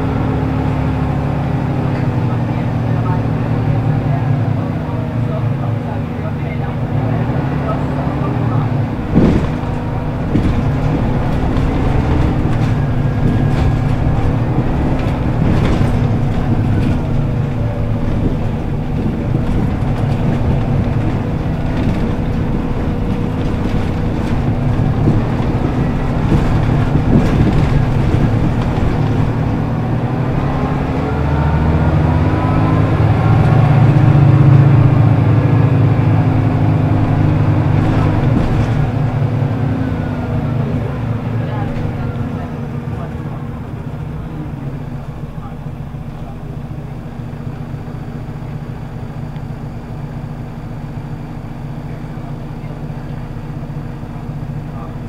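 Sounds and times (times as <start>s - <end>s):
bus diesel engine running: 0.0s - 55.0s
gearbox and driveline whine: 0.0s - 55.0s.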